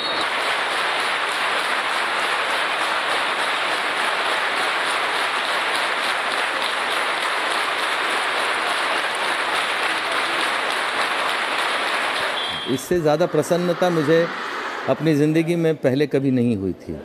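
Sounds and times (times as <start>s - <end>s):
crowd applauding: 0.0s - 15.7s.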